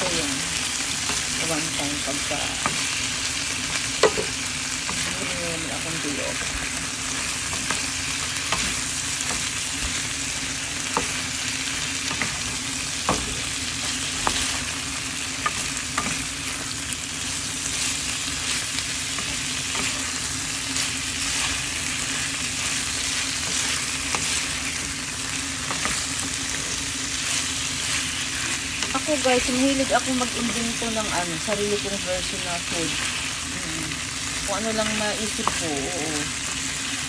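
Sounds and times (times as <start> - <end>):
food sizzling in a frying pan: 0.0 - 37.0.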